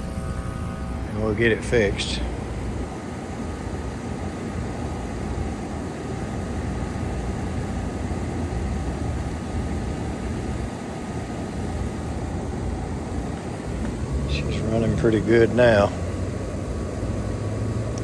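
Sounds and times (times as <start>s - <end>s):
heat pump humming with rushing air: 0.0s - 18.0s.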